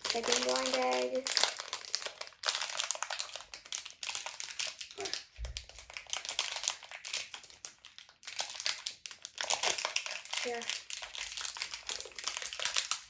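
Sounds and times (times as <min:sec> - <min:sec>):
blind bag crinkling and tearing: 0:00.0 - 0:13.0.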